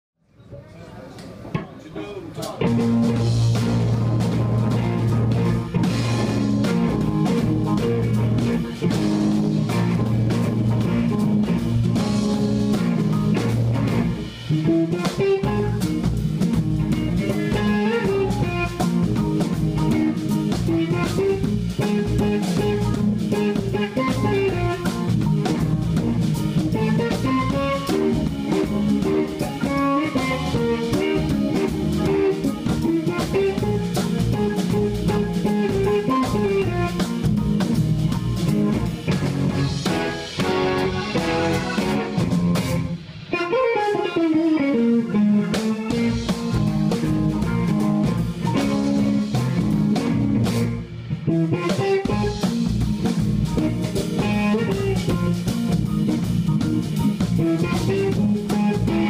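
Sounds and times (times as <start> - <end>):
melodic electric guitar line: 1.4 - 59.0
electric band jazz-funk groove: 1.5 - 59.0.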